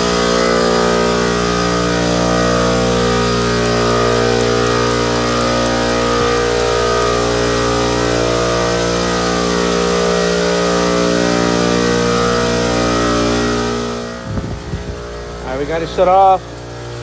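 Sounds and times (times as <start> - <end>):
compressors humming: 0.0 - 17.0.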